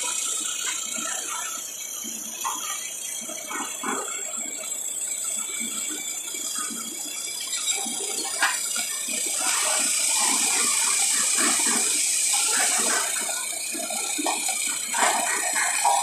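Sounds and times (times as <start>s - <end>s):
laser welding hiss and crackle: 0.0s - 16.0s.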